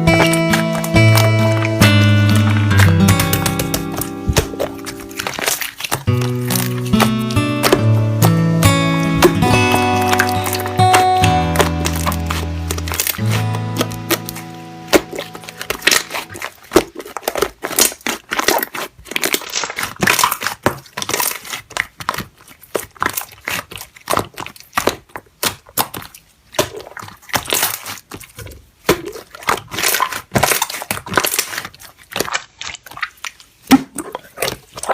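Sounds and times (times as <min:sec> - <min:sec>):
slime squished crackling: 0:00.0 - 0:34.9.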